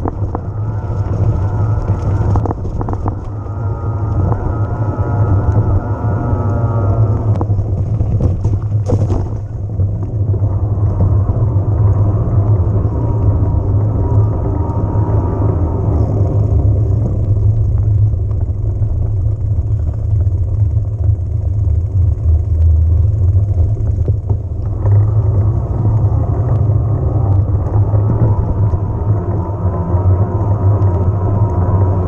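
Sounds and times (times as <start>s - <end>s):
bike tyre noise: 0.0s - 32.0s
wind buffeting microphone: 0.0s - 32.0s.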